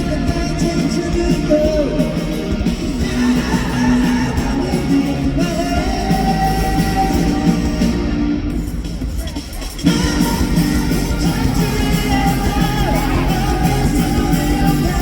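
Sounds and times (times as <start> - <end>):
person singing: 0.0 - 8.4, 9.8 - 15.0
live pop-rock band playing: 0.0 - 15.0.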